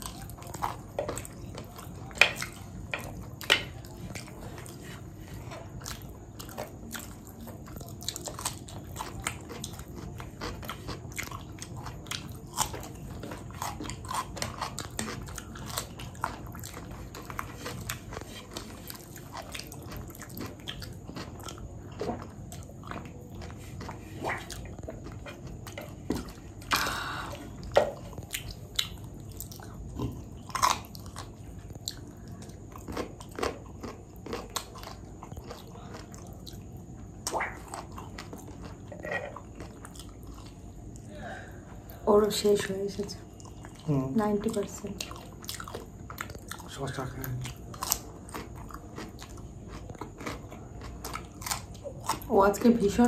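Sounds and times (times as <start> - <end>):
person chewing and biting food: 0.0 - 41.1, 45.0 - 52.3.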